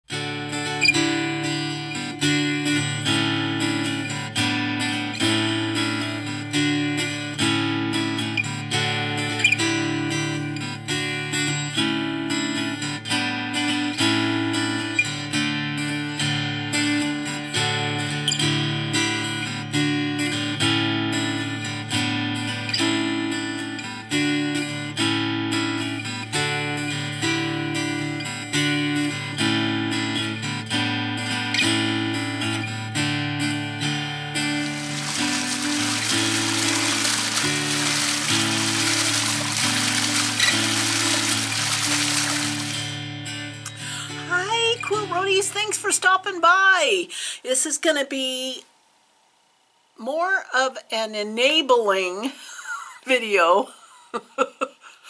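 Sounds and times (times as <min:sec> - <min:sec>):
acoustic guitar plucked chords: 0:00.0 - 0:46.2.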